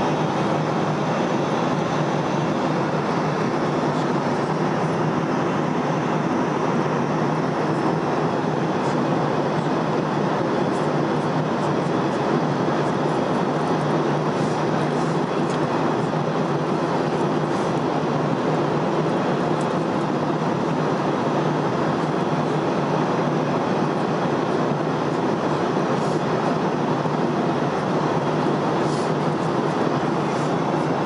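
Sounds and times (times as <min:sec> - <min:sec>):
airliner cabin engine rush: 0:00.0 - 0:31.0.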